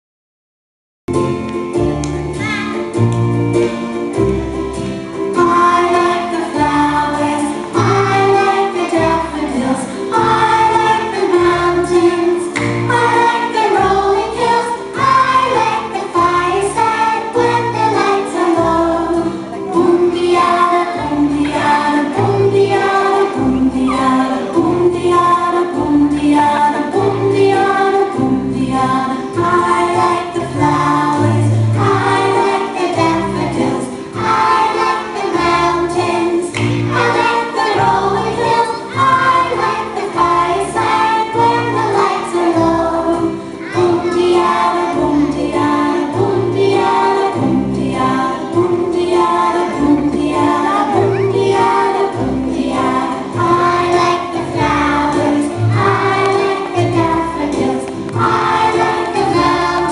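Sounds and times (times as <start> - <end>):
instrumental accompaniment: 1.1 - 59.9
children singing: 5.3 - 59.9.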